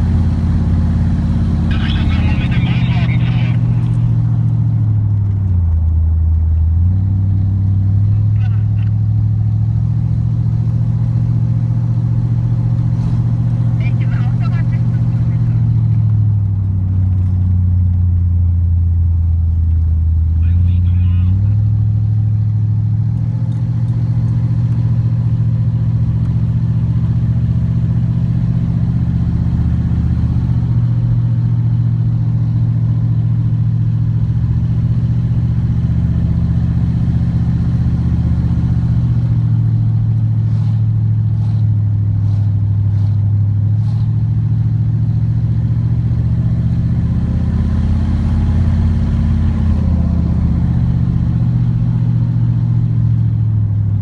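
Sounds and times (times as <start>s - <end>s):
car engine running from inside: 0.0s - 54.0s.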